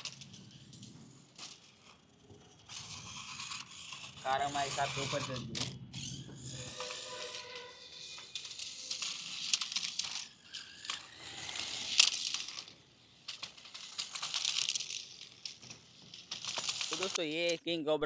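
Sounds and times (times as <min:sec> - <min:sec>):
plastic clattering and scraping: 0:00.0 - 0:17.6.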